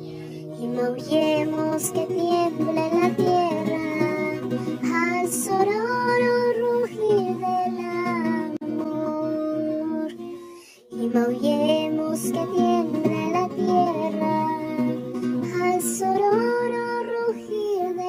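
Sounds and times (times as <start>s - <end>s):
acoustic guitar: 0.0s - 18.0s
high singing voice: 0.0s - 18.0s.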